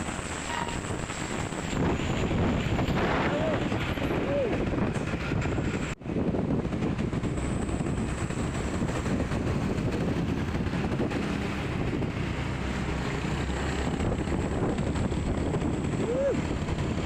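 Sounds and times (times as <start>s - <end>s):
vehicles moving along road: 0.0s - 17.0s
wind buffeting microphone: 0.0s - 17.0s.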